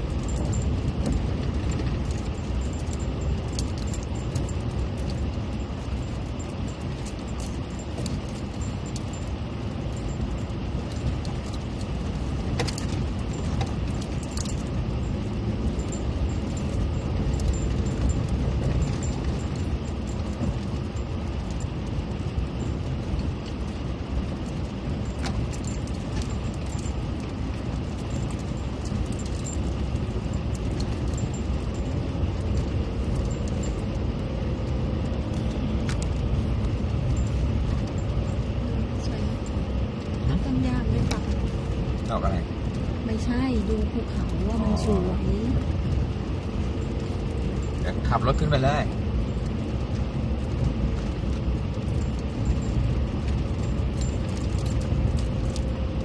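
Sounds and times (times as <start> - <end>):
car driving rumble: 0.0 - 56.0
rattles and clicks: 0.0 - 56.0.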